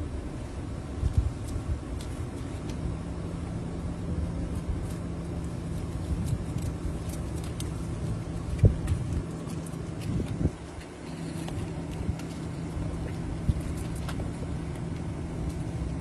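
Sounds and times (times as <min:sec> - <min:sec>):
vehicle engine idling: 0:00.0 - 0:16.0
wind rumble on microphone: 0:00.0 - 0:16.0.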